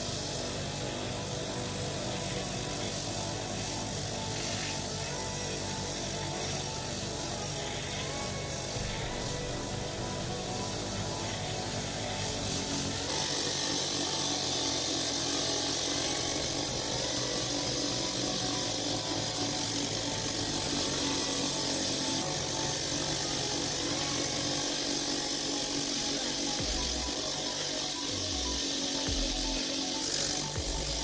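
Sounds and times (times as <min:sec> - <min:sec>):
bench grinder scouring metal: 0:00.0 - 0:31.0.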